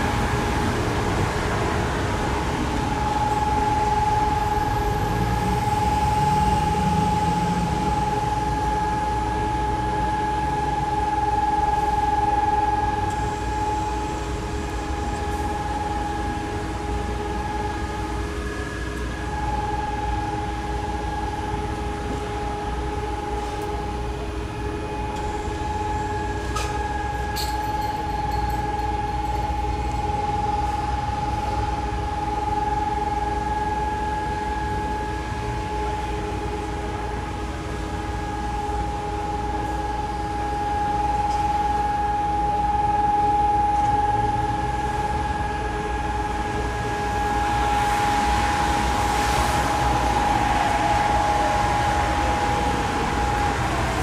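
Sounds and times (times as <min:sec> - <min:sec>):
street traffic hum: 0:00.0 - 0:54.0.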